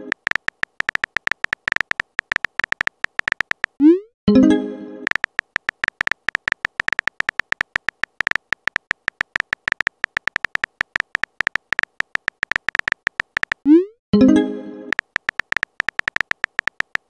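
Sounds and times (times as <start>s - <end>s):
keyboard-tap clicks: 0.0s - 3.8s, 5.1s - 13.7s, 15.0s - 17.0s.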